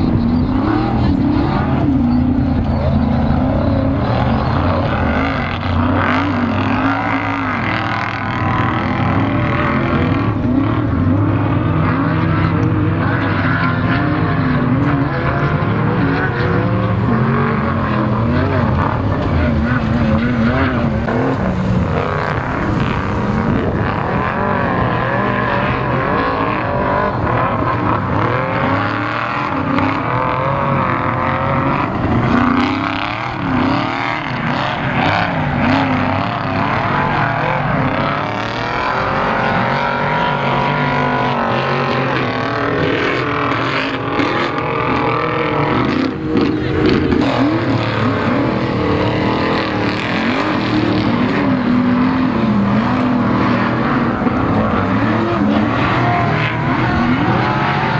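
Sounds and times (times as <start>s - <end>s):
race vehicle engines revving: 0.0s - 57.9s.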